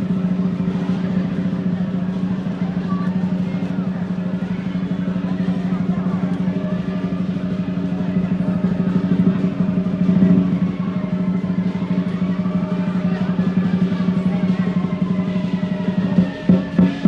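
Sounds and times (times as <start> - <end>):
large drum rolling: 0.0 - 17.0.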